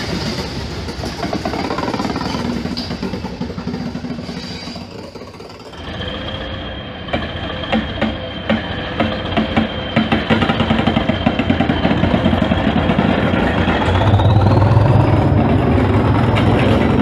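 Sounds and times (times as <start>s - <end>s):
diesel train engine humming: 0.0s - 17.0s
train engine whining: 0.0s - 17.0s.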